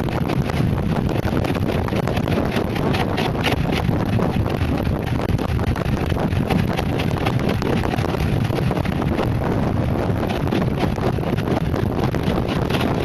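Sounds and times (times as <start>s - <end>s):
tyres rumbling on asphalt: 0.0s - 13.0s
wind rushing over microphone: 0.0s - 13.0s.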